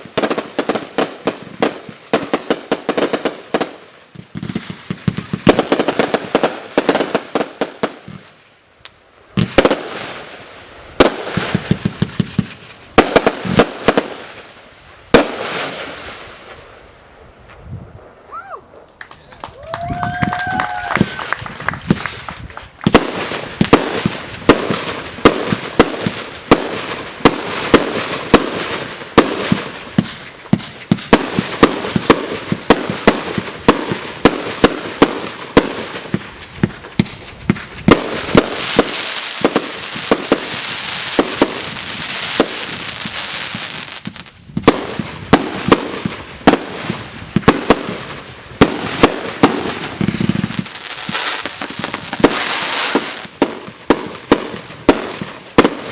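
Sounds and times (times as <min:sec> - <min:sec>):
fireworks bangs: 0:00.0 - 0:08.4, 0:09.3 - 0:55.9
fireworks crackling: 0:00.0 - 0:55.9.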